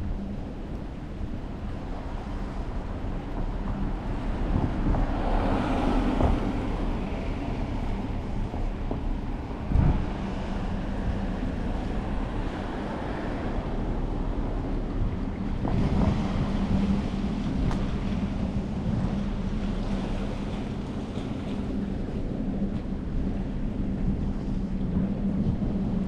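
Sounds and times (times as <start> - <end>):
waves washing onto beach: 0.0 - 26.0
wind buffeting microphone: 0.0 - 26.0.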